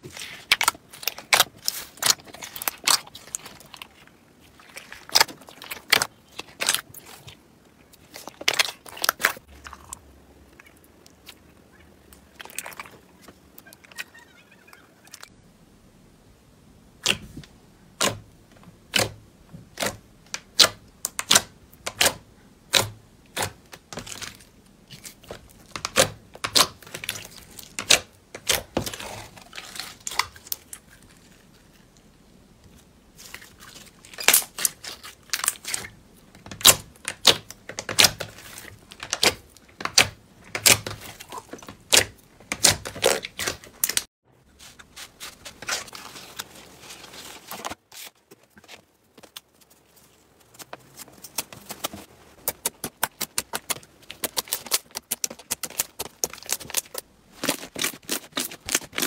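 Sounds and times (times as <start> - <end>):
soft slime squishing: 0.0 - 15.2, 17.0 - 59.0.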